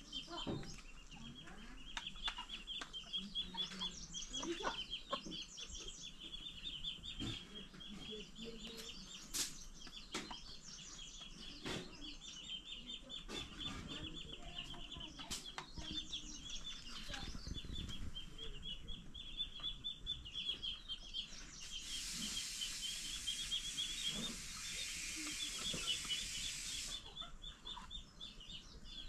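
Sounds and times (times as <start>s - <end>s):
chickens clucking: 0.0s - 29.0s
rapid high-pitched chirping: 0.0s - 29.0s.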